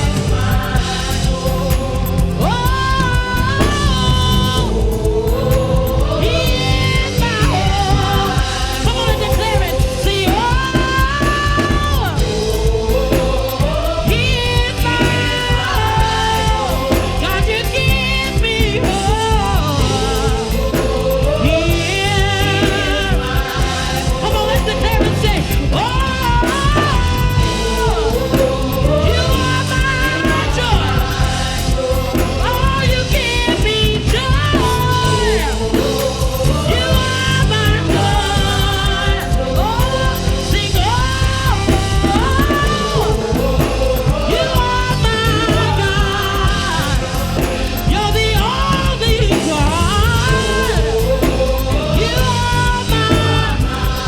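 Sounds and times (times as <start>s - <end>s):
band playing with steady bass: 0.0s - 54.0s
person singing with vibrato: 0.0s - 54.0s.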